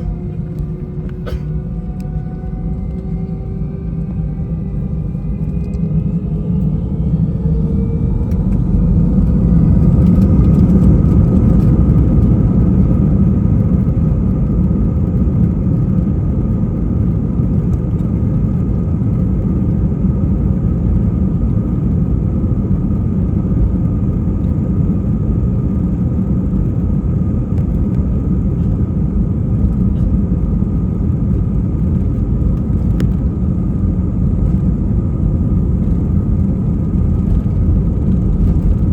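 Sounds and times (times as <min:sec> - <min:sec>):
heavy engine rumble: 0:00.0 - 0:38.9
jet engines whining: 0:00.0 - 0:38.9.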